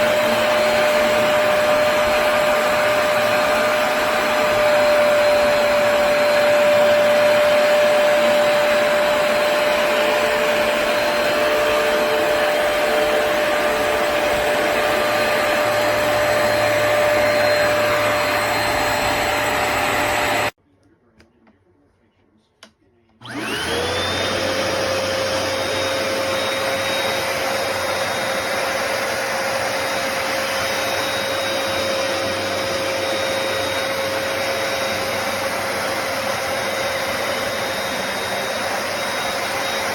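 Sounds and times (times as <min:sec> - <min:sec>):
carpet cleaner motor whine: 0:00.0 - 0:20.6, 0:23.2 - 0:39.9.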